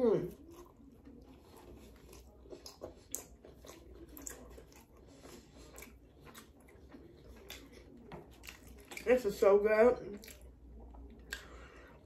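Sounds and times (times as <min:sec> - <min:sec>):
faint chewing: 0:00.1 - 0:09.4, 0:10.1 - 0:12.0.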